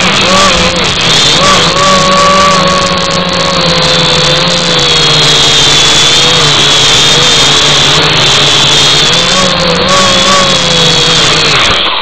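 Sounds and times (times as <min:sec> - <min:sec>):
drone motors whining: 0:00.0 - 0:12.0
loud rushing noise: 0:00.0 - 0:12.0.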